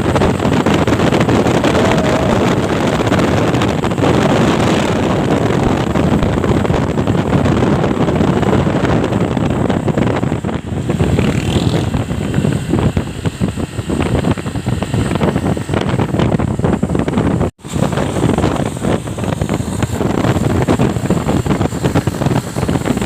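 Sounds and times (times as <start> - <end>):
truck engine and road noise: 0.0 - 23.0
wind buffeting microphone: 0.0 - 23.0.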